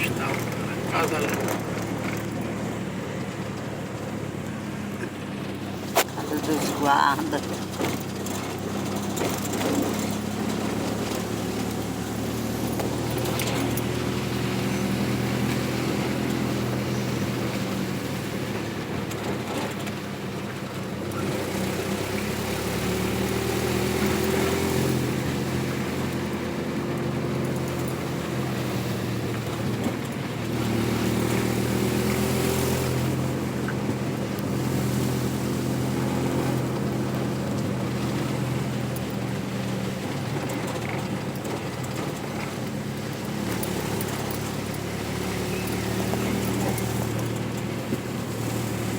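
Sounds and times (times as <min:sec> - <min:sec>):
road noise: 0:00.0 - 0:48.9
vehicle engine running: 0:00.0 - 0:48.9.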